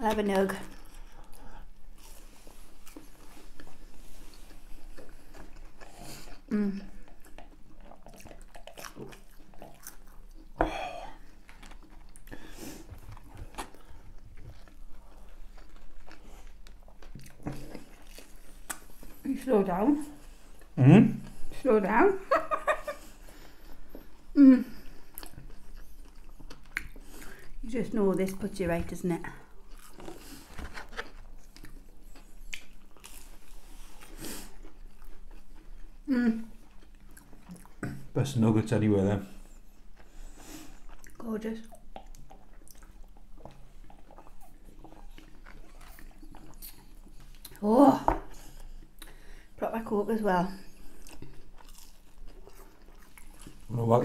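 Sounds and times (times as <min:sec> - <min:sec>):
chewing and biting food: 0:00.2 - 0:19.3, 0:23.0 - 0:38.2, 0:39.4 - 0:47.6, 0:50.6 - 0:54.0.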